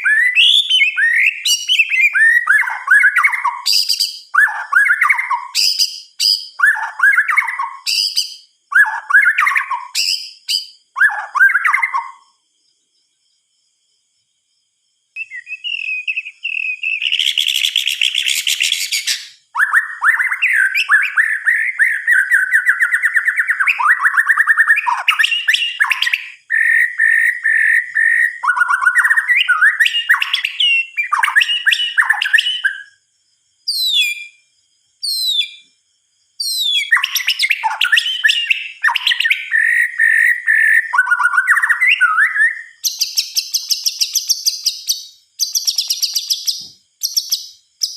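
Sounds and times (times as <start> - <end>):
bird singing whistled phrases: 0.0 - 12.3, 15.2 - 33.0, 33.7 - 34.4, 35.0 - 35.6, 36.4 - 47.9.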